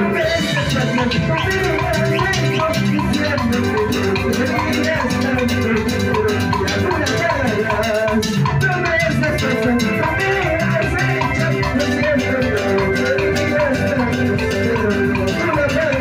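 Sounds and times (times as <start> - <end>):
drum kit beating steady rhythm: 0.0 - 16.0
sustained melody line: 0.0 - 16.0.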